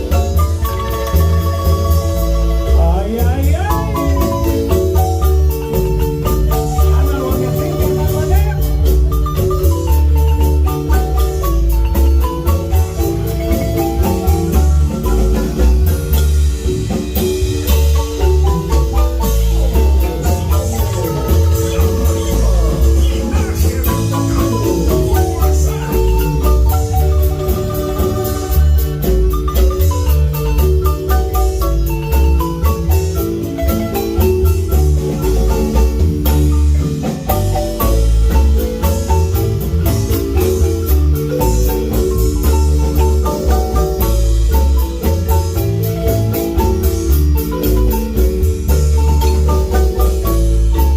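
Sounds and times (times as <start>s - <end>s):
heavy bass line: 0.0s - 50.9s
marimba band playing: 0.0s - 50.9s
percussion strikes: 0.0s - 50.9s.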